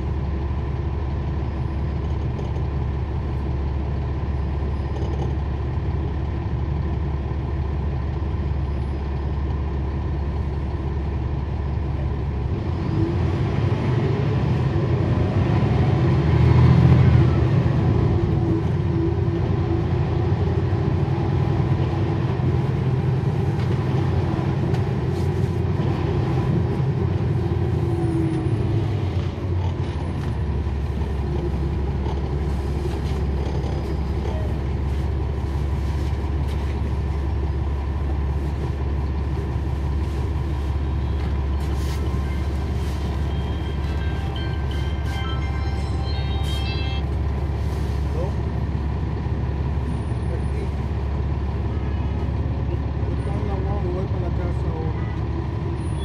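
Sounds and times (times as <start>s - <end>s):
bus diesel engine idling and revving: 0.0s - 56.0s.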